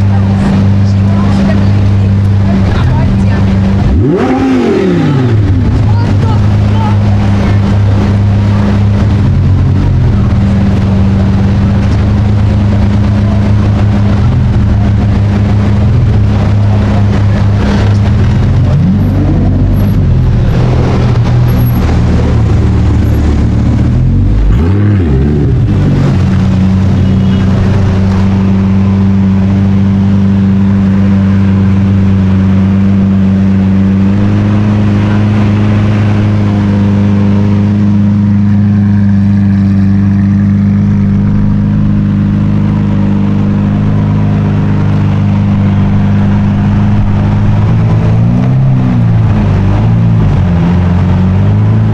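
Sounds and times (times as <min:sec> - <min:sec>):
engine revving: 0:00.0 - 0:51.9
sports car engine idling: 0:00.0 - 0:51.9.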